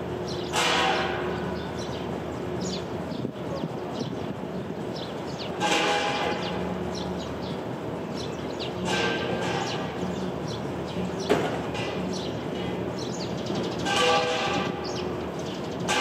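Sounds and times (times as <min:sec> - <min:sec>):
city background: 0:00.0 - 0:16.0
passing street noise: 0:00.0 - 0:16.0
sparrows chirping: 0:00.0 - 0:16.0.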